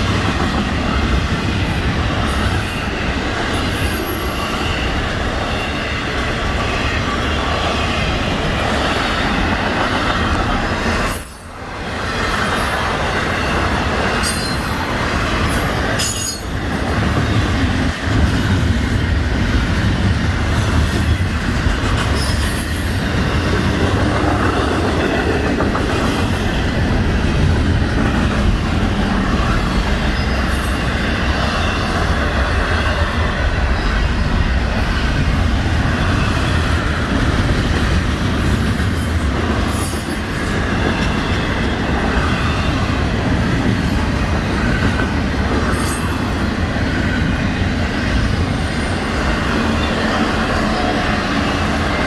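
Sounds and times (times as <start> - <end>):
train rumbling past: 0.0 - 52.0.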